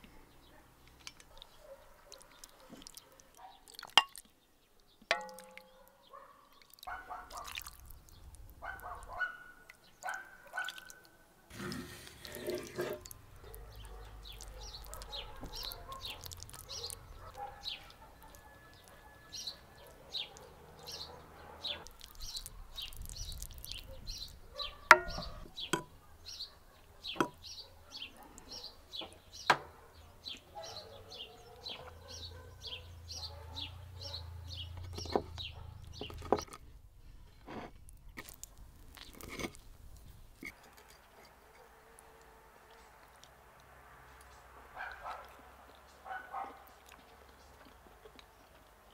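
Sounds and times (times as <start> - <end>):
small birds chirping: 0.0 - 36.6, 44.1 - 48.9.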